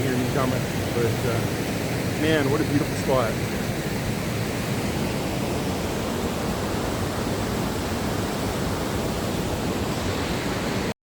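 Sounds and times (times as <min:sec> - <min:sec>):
waterfall rushing: 0:00.0 - 0:10.9.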